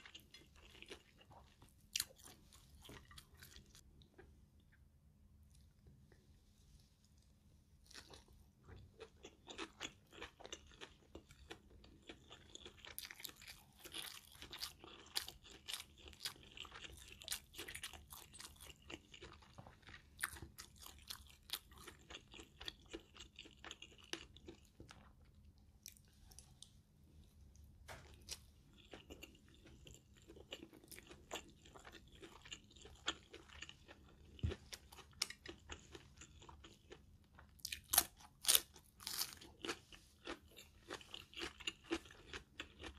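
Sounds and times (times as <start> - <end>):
person chewing crisply: 0.0 - 4.4, 7.0 - 42.9.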